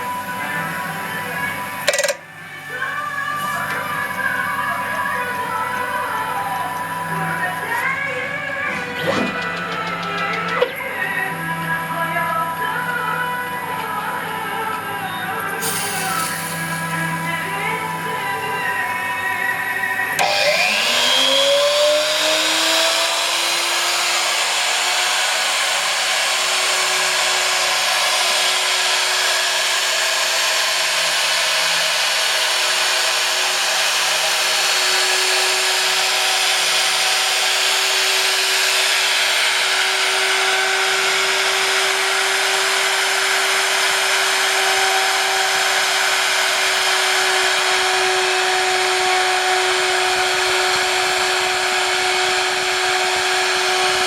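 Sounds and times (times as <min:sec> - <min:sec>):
drill spindle whining: 0:00.0 - 0:13.4, 0:14.0 - 0:54.0.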